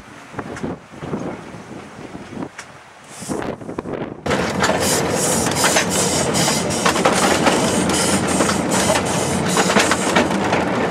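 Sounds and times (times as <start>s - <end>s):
train carriage rattling on track: 0.0s - 10.9s.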